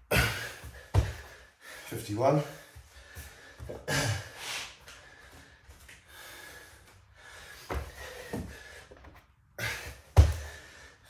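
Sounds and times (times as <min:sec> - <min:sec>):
man breathing hard: 0:00.0 - 0:11.0.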